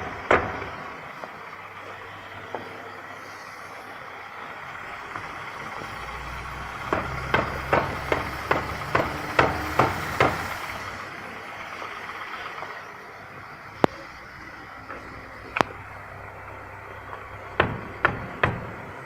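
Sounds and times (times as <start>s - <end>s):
brake calipers knocking: 0.0s - 19.0s
car rolling rumble: 0.0s - 19.0s.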